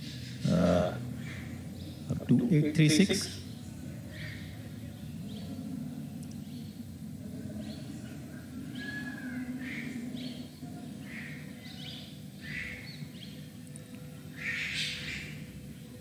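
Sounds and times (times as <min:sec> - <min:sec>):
birds chirping: 0:00.0 - 0:16.0
low steady hum: 0:00.0 - 0:16.0.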